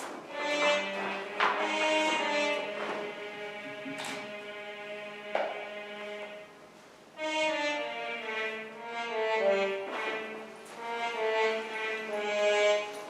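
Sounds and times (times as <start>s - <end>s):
slow instrumental music: 0.0s - 13.0s.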